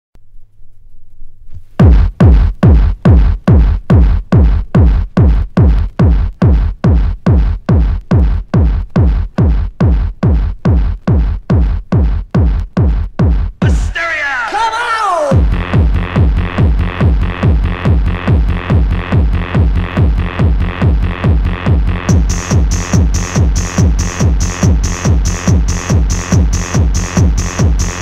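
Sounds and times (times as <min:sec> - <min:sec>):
electronic kick drum: 0:01.8 - 0:14.0, 0:15.3 - 0:28.0.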